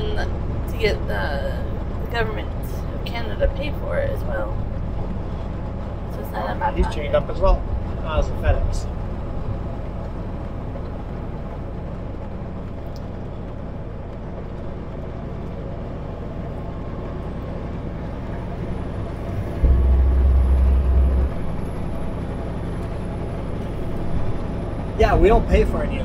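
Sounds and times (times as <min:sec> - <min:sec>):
loud low rumble: 0:00.0 - 0:26.0
truck engine and road hum: 0:00.0 - 0:26.0.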